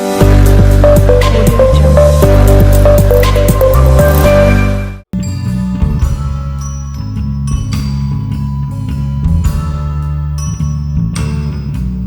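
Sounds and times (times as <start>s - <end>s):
music with deep bass and beat: 0.0s - 12.0s.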